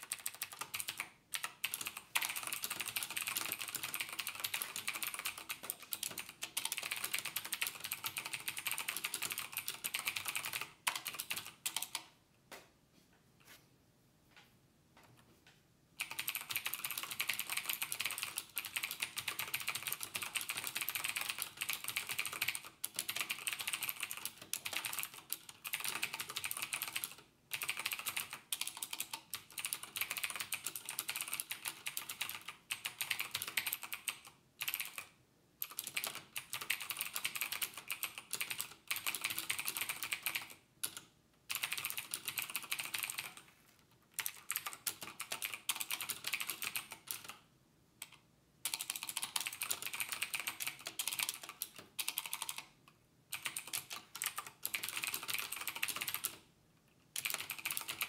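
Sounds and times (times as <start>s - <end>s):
typing on computer keyboard: 0.0s - 12.2s, 16.0s - 43.5s, 44.2s - 47.4s, 48.0s - 56.5s, 57.1s - 58.0s.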